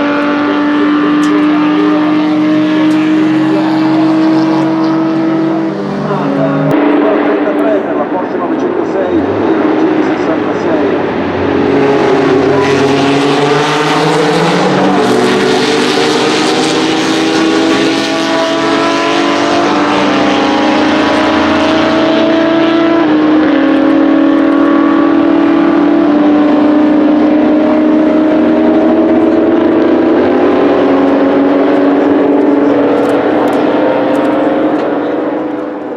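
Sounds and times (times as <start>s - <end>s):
racing car engines revving: 0.0s - 35.9s.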